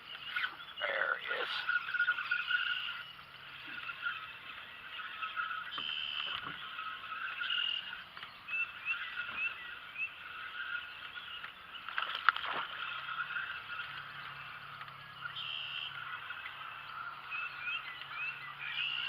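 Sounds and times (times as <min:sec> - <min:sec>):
frogs calling: 0:00.0 - 0:19.0
rising bird chirps: 0:00.0 - 0:19.0.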